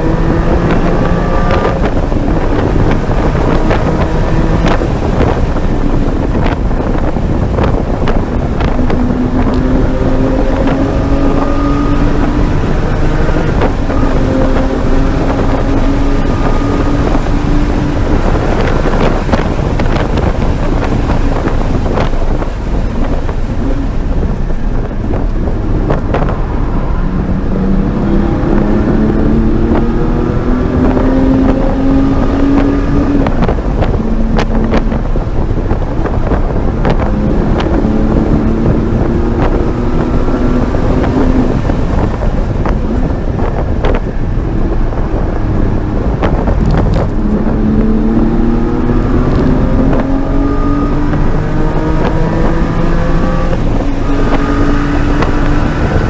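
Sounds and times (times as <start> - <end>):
car engine accelerating and upshifting: 0.0 - 56.0
wind and tyre noise: 0.0 - 56.0.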